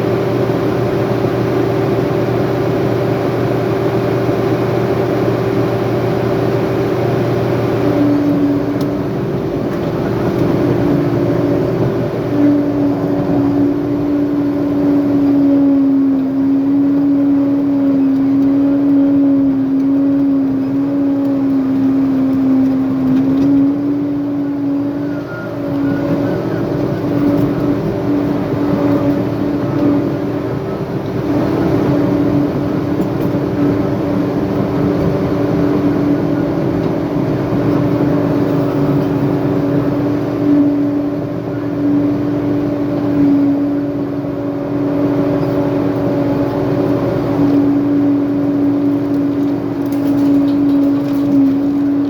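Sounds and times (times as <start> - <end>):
heavy machine diesel engine running: 0.0 - 52.0.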